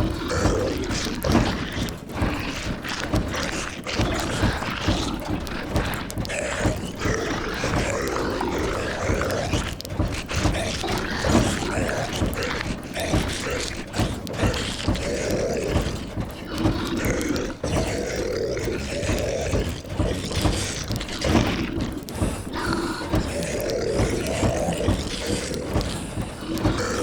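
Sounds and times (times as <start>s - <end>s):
rain on a roof: 0.0s - 27.0s
zombie moans and growls: 0.0s - 27.0s.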